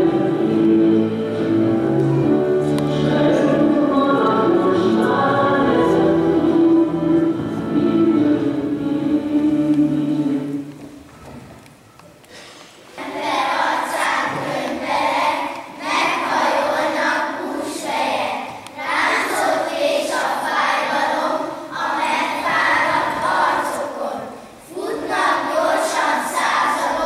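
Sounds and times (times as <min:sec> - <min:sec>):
children singing together: 0:00.0 - 0:11.1, 0:12.4 - 0:27.0.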